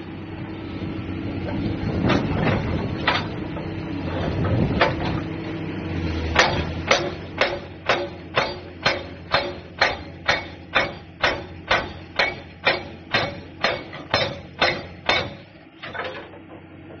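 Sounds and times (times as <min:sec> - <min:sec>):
hydraulic breaker hammering rock: 0:01.4 - 0:05.3, 0:06.0 - 0:17.0.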